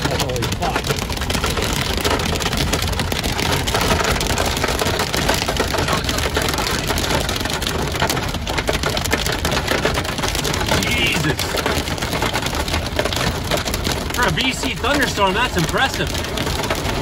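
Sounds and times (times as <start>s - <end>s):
hail hitting a vehicle: 0.0s - 17.0s
vehicle driving rumble: 0.0s - 17.0s.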